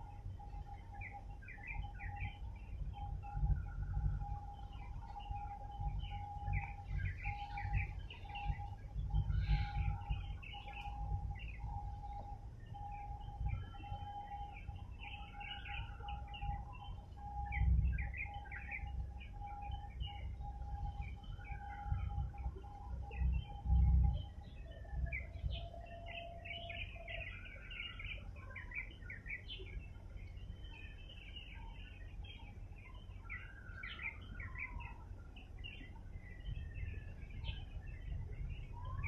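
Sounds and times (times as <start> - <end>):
low uneven rumble: 0.0 - 33.3
birds chirping and whistling: 0.0 - 39.0
pulsing steady tone: 0.0 - 39.0.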